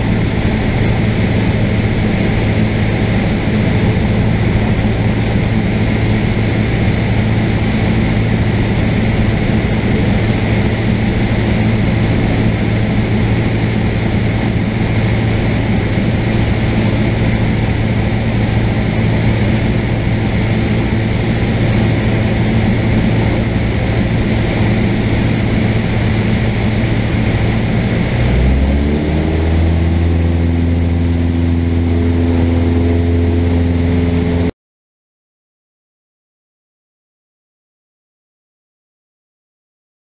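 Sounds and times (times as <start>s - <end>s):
aircraft engine and propeller drone: 0.0s - 34.5s.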